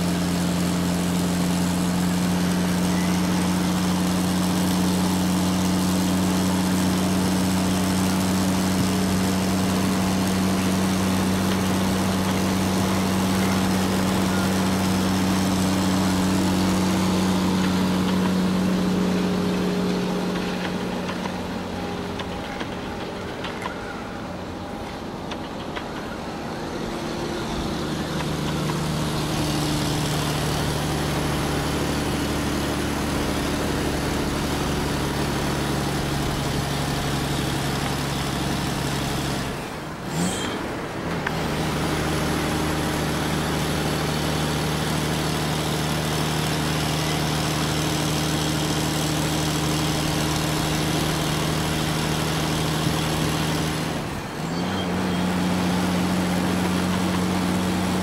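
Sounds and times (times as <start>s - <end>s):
motor drone with hum: 0.0s - 58.0s.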